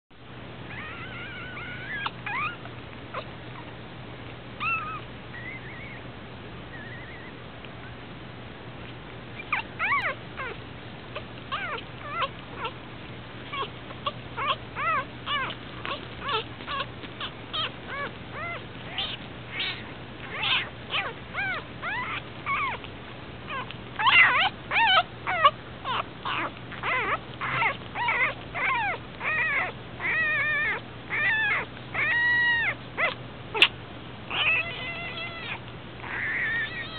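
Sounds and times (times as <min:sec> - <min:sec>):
puppy squeaking: 0:00.7 - 0:03.8, 0:04.6 - 0:06.1, 0:06.7 - 0:07.5, 0:09.4 - 0:12.8, 0:13.5 - 0:22.9, 0:23.5 - 0:36.9.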